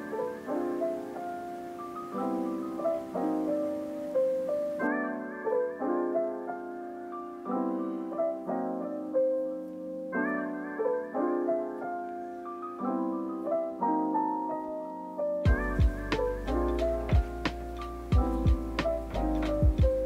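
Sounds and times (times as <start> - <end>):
gentle piano chords and notes: 0.0 - 20.0.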